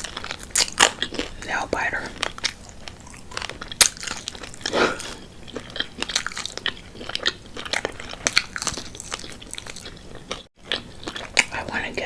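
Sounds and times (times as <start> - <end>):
chewing crispy chicken: 0.0 - 12.0.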